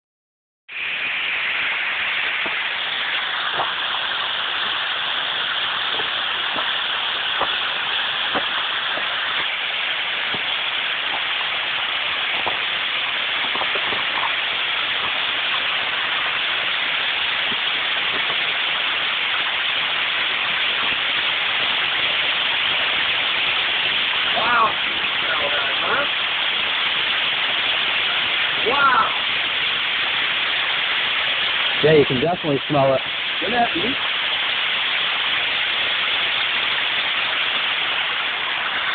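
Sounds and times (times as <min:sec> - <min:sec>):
waterfall splashing over rocks: 0:00.7 - 0:38.9.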